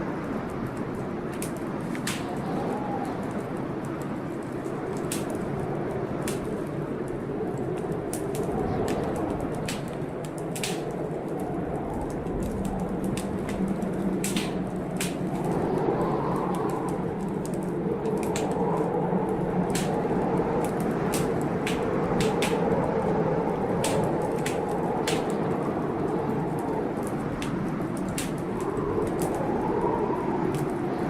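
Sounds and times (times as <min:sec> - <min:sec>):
storm rushing: 0:00.0 - 0:31.0
wood fire crackling and popping: 0:00.0 - 0:31.0.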